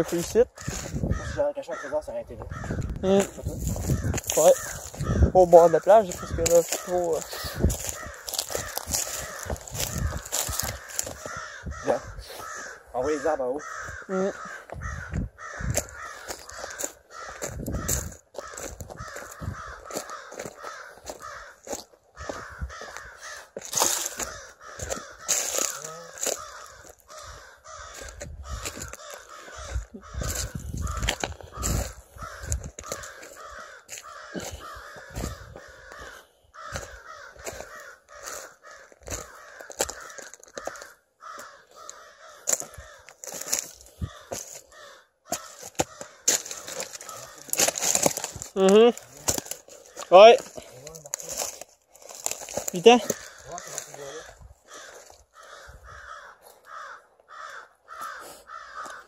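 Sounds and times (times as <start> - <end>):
branches cracking: 0.0 - 1.3, 2.5 - 11.8, 13.6 - 59.0
birds calling: 0.0 - 59.0
footsteps crunching on shale: 0.0 - 59.0.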